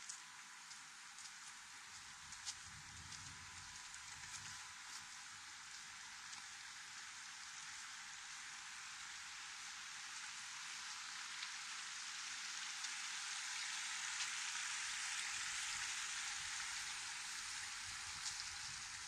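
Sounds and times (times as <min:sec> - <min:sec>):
creek trickling over rocks: 0:00.0 - 0:19.0.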